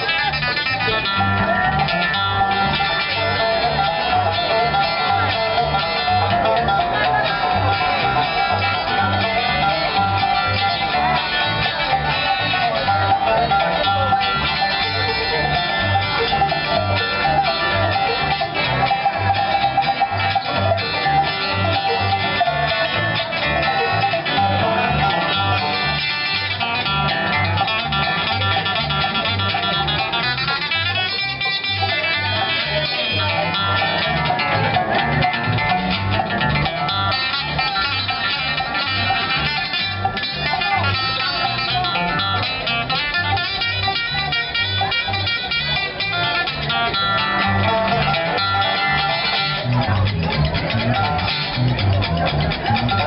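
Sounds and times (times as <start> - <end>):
banjo picking: 0.0 - 53.0
bass line: 0.0 - 53.0
guitar picking: 0.0 - 53.0.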